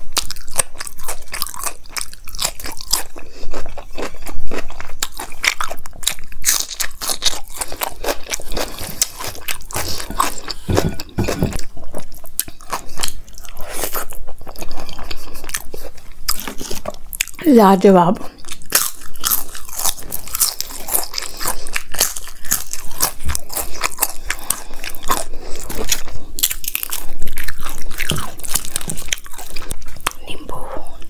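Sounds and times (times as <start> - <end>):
crisp chewing and crunching: 0.0 - 17.5, 18.2 - 31.0.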